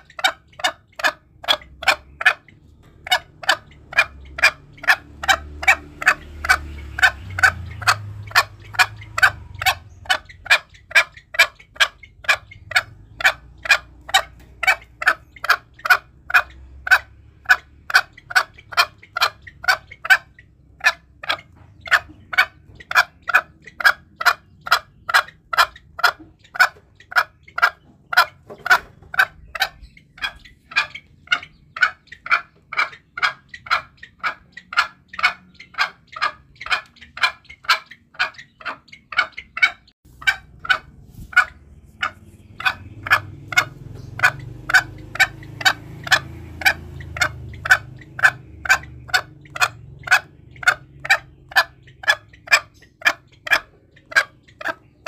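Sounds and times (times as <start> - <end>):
junglefowl sharp calls: 0.0 - 55.0.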